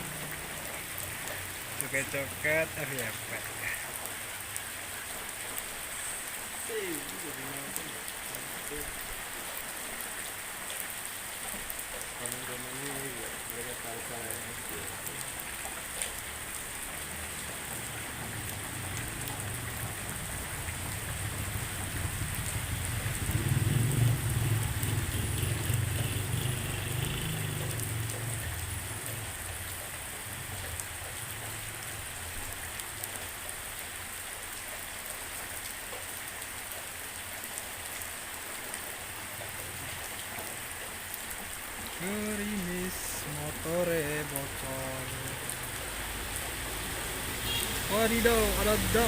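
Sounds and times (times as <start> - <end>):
light rain falling: 0.0 - 49.0.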